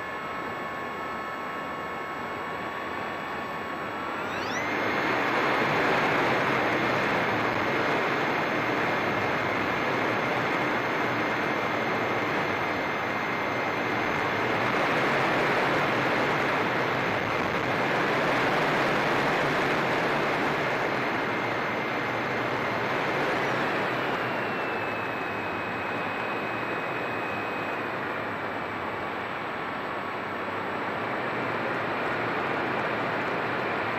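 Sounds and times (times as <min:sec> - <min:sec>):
model plane motor whine: 0:00.3 - 0:33.9.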